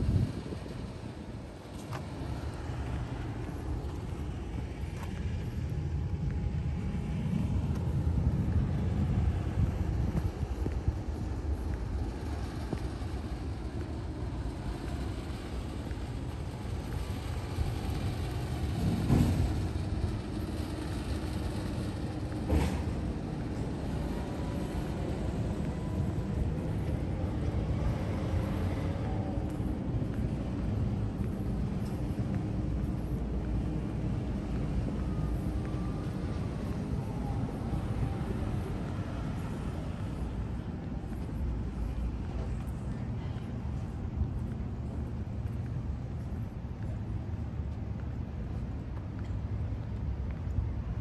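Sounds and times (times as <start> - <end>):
road traffic rumble: 0.0 - 51.0.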